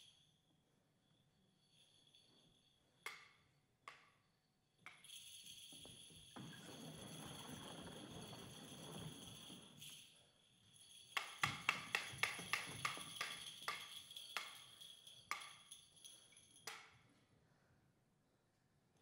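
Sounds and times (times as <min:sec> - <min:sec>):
high jingling ring: 0:00.0 - 0:03.6, 0:04.7 - 0:16.9.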